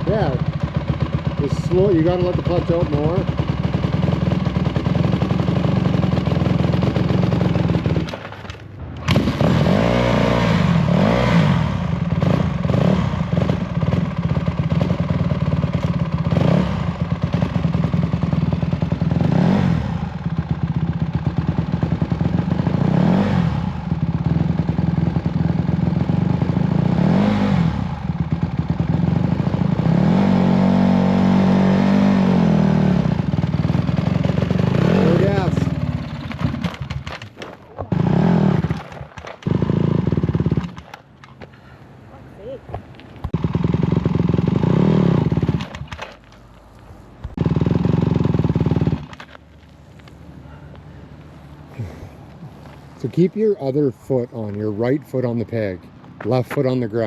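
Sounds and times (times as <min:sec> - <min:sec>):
dirt bike engine revving: 0:00.0 - 0:41.0, 0:43.2 - 0:46.1, 0:47.2 - 0:49.4, 0:50.4 - 0:55.4.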